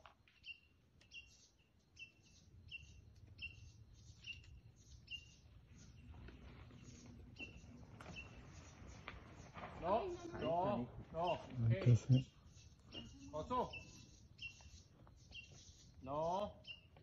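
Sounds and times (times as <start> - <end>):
bird chirping: 0.2 - 17.0.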